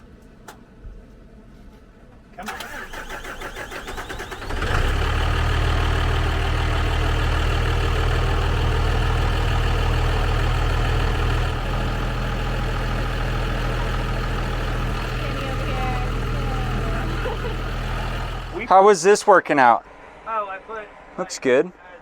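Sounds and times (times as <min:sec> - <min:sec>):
diesel engine cranking and starting: 0:02.4 - 0:21.2
diesel engine running: 0:02.4 - 0:21.9.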